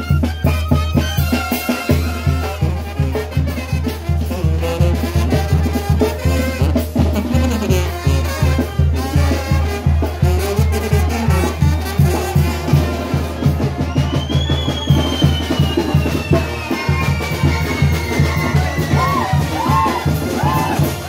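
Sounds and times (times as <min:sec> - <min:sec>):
bass drum beat: 0:00.0 - 0:21.0
brass band playing: 0:00.0 - 0:21.0.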